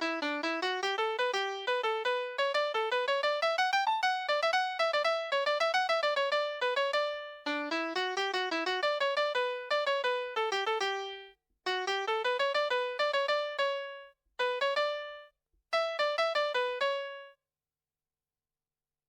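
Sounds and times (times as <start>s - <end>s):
toy playing electronic piano melody: 0.0s - 17.4s.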